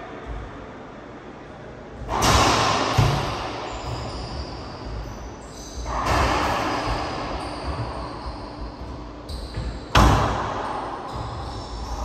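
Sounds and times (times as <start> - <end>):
racquetball bursts in echoing court: 2.0 - 12.0.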